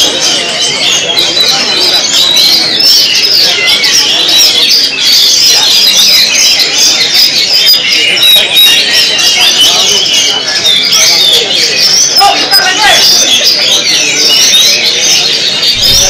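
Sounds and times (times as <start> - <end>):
songbirds chorus: 0.0 - 16.0.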